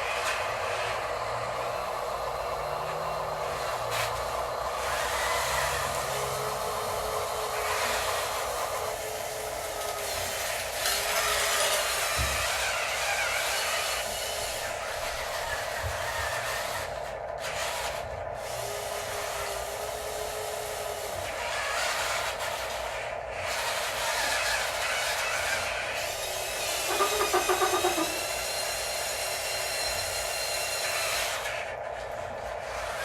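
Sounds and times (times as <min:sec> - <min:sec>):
higher motor whine: 0:00.0 - 0:33.0
small electric motors whirring: 0:00.0 - 0:33.0.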